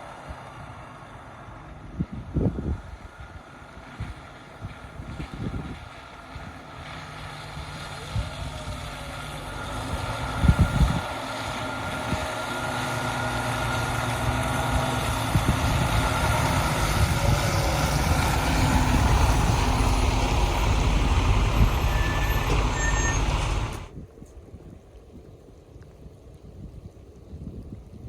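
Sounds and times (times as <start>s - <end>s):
engine and road rumble: 0.0s - 27.2s.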